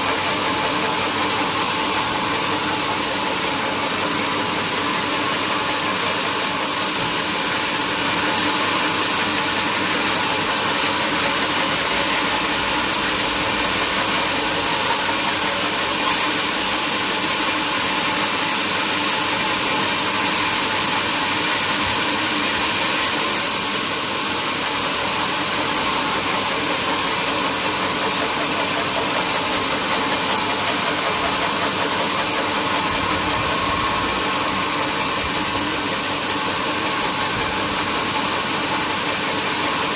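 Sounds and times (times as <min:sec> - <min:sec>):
mechanical hum: 0:00.0 - 0:39.9
sawmill machinery hissing: 0:00.0 - 0:39.9.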